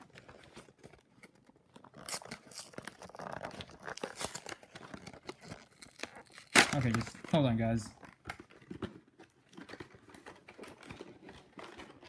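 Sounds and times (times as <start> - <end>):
plastic shrink wrap tearing: 0.0 - 12.0.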